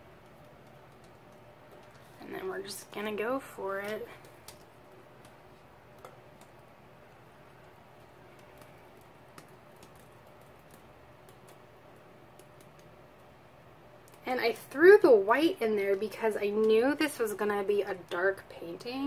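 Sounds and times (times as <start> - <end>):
quiet room hiss: 0.0 - 19.0.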